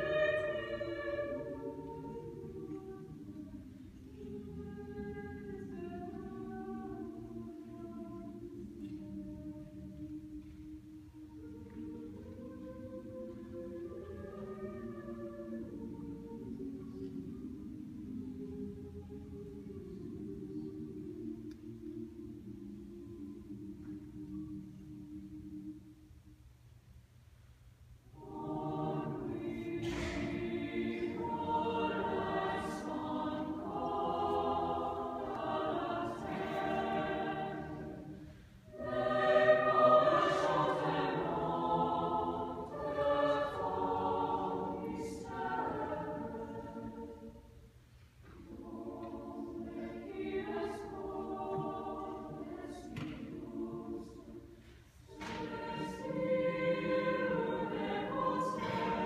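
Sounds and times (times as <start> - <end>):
choir singing: 0.0 - 26.2, 28.1 - 59.0.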